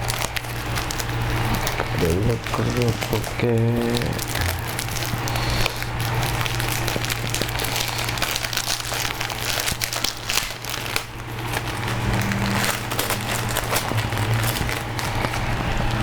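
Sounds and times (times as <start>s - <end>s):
steady low hum: 0.0s - 16.0s
wrapping crinkling and crackling: 0.0s - 16.0s.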